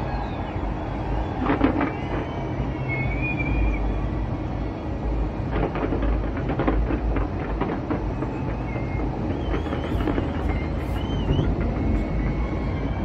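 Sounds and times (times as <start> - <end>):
fireworks crackling: 0.0 - 4.0, 5.0 - 12.5
fireworks booming: 0.1 - 3.8, 5.2 - 12.6.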